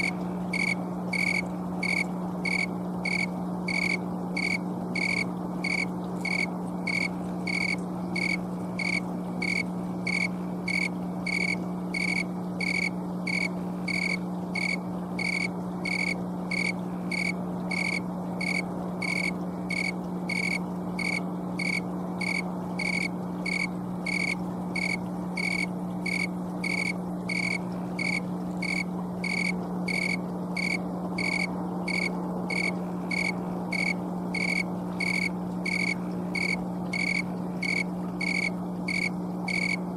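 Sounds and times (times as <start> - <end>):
cricket chirping: 0.0 - 39.8
steady low hum: 0.0 - 39.9.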